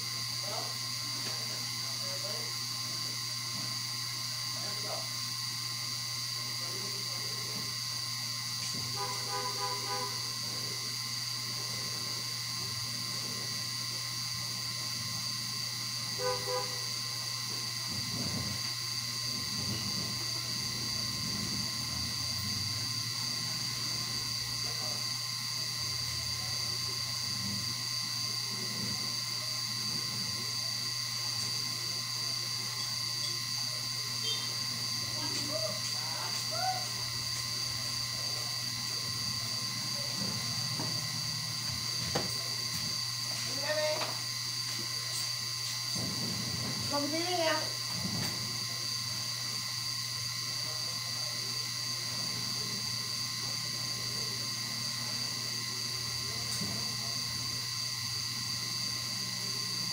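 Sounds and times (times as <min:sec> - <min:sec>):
mechanical hum with high whine: 0:00.0 - 0:59.9.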